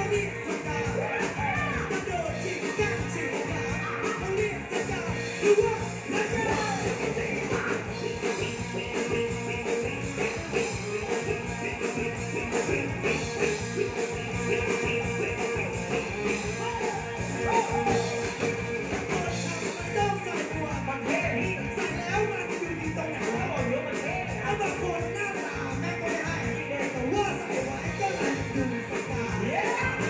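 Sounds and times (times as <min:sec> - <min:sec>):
man singing into a microphone: 0:00.0 - 0:18.0, 0:19.0 - 0:30.0
drums beat: 0:00.0 - 0:30.0
electric guitar: 0:00.0 - 0:30.0.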